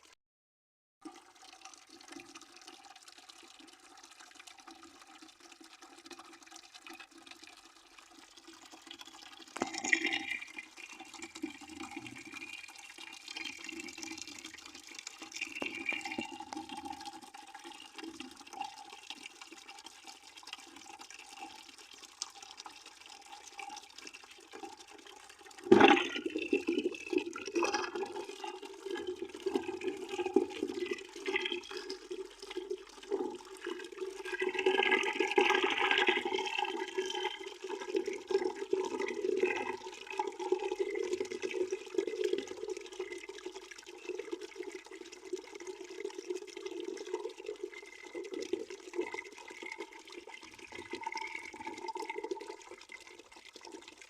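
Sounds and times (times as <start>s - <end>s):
water pouring into a bucket: 1.0s - 54.0s.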